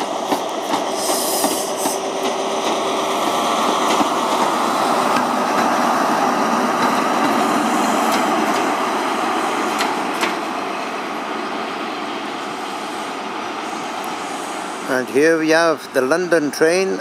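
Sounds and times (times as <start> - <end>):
diesel train engine running: 0.0 - 17.0
rumble of train coaches: 0.0 - 17.0.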